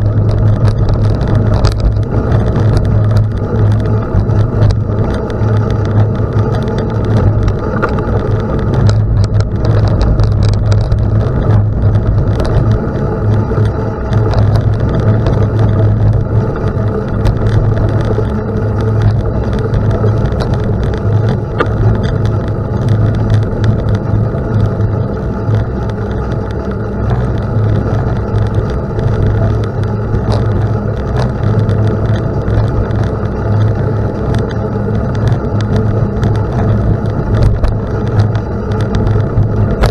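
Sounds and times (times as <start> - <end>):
bicycle tyres on gravel: 0.0 - 39.9
scattered clicks: 0.0 - 39.9
wind rumble: 0.0 - 39.9.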